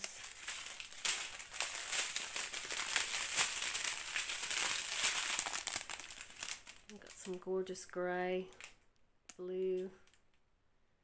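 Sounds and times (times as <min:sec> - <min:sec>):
plastic bags crinkling: 0:00.0 - 0:08.8.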